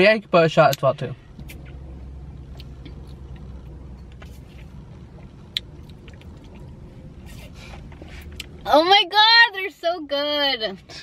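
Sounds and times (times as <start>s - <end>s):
car interior hum: 0.0s - 11.0s.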